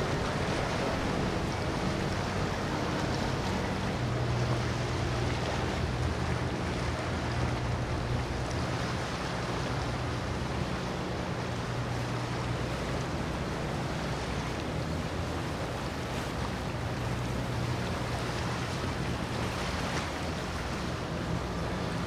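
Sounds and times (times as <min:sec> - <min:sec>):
boat engines droning: 0:00.0 - 0:22.0
water and wind hiss: 0:00.0 - 0:22.0.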